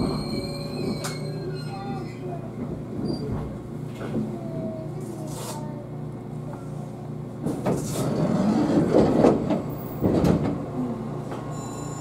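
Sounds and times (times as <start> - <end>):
electric train hum: 0.0 - 5.0, 5.7 - 12.0.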